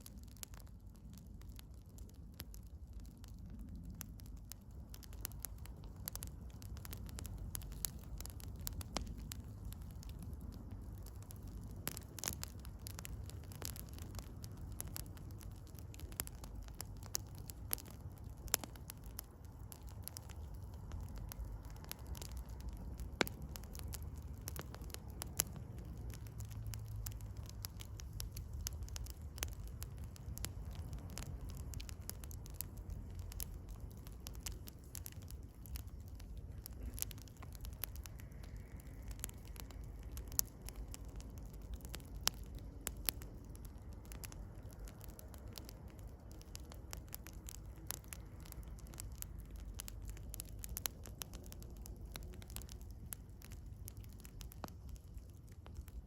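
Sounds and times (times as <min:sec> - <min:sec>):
campfire crackling: 0:00.0 - 0:56.0
low steady rumble: 0:00.0 - 0:56.0.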